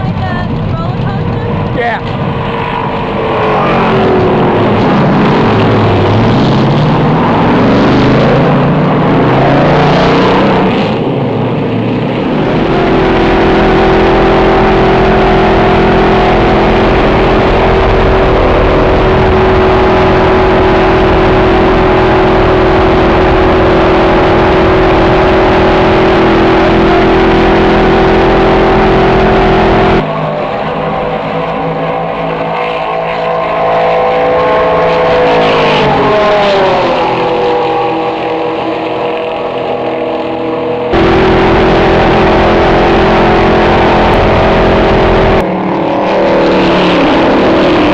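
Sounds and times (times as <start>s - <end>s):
race car engine at high revs: 0.0s - 47.9s.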